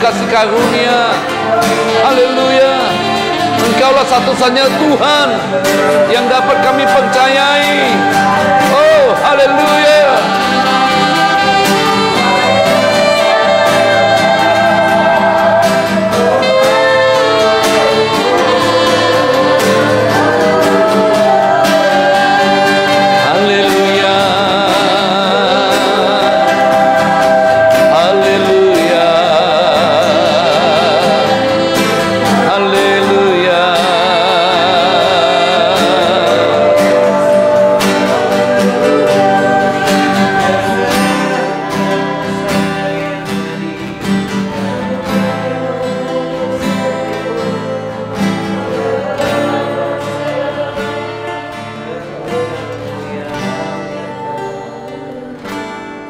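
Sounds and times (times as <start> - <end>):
person singing wordless melody: 0.0 - 56.0
slow worship band music: 0.0 - 56.0.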